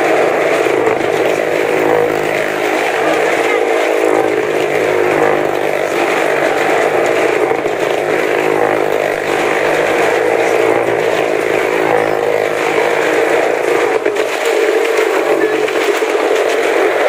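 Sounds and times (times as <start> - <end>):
small car engine running hard: 0.0 - 17.0.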